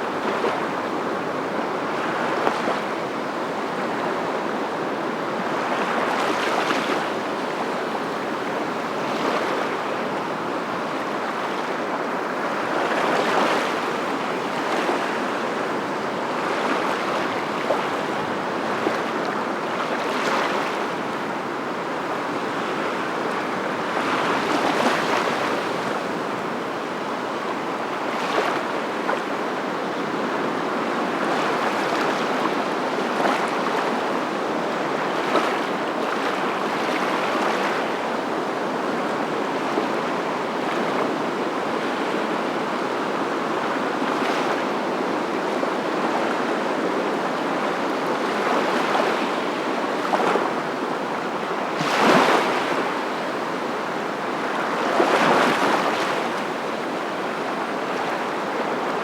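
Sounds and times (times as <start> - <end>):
surf breaking waves: 0.0 - 59.0.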